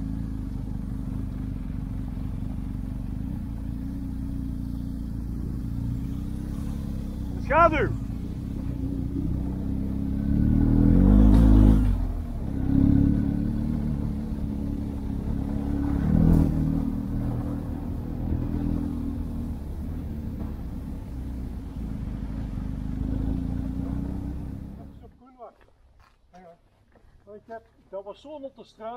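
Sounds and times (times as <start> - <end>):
motorcycle engine running: 0.0 - 25.1.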